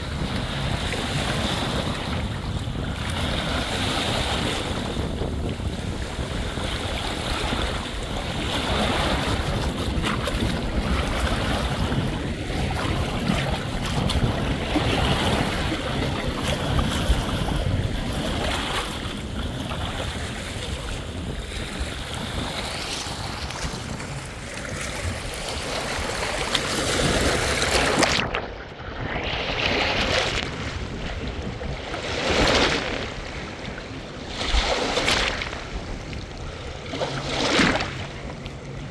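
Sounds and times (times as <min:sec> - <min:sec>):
sea waves washing on shore: 0:00.0 - 0:38.9
wind buffeting microphone: 0:00.0 - 0:38.9.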